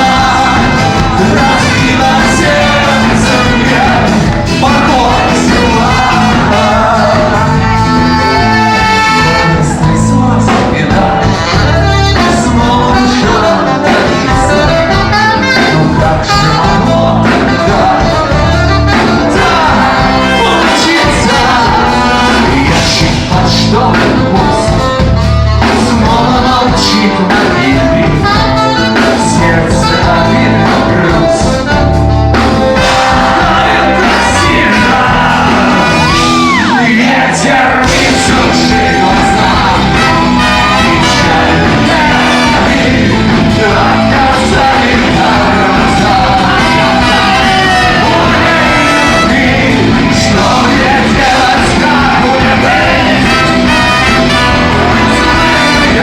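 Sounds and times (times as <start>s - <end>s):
live rock band playing: 0.0s - 56.0s
vocalist singing: 0.0s - 56.0s.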